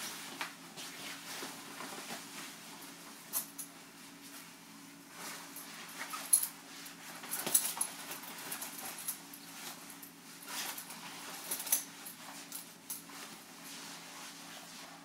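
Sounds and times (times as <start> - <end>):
jacket fabric rustling: 0.0 - 15.0.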